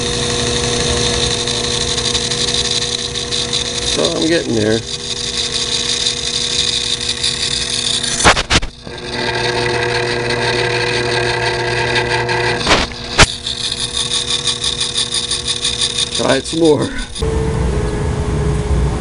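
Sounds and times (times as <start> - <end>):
bench lathe motor whine: 0.0 - 18.1.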